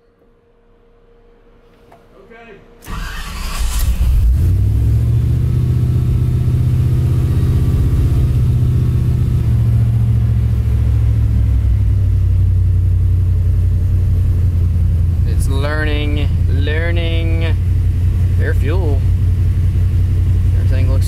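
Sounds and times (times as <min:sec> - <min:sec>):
truck engine fast idle: 0:02.9 - 0:21.0.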